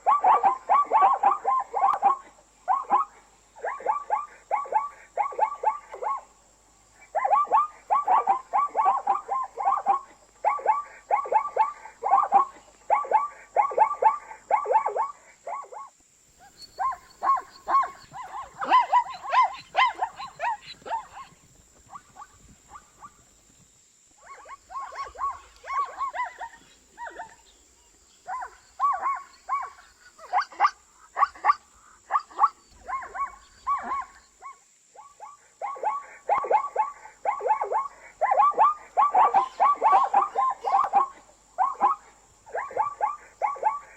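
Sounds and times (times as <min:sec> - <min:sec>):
zebra yelping barks: 0:00.0 - 0:06.3, 0:06.9 - 0:23.2, 0:24.2 - 0:43.9.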